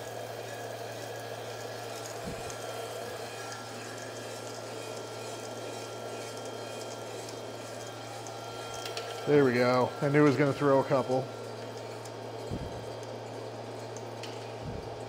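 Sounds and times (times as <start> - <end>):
coffee roaster humming: 0.0 - 15.0.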